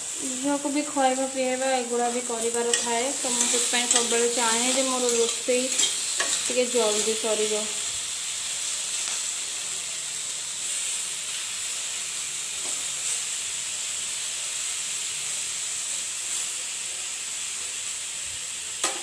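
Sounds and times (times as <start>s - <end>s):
frying in hot oil sizzling: 0.0s - 19.0s.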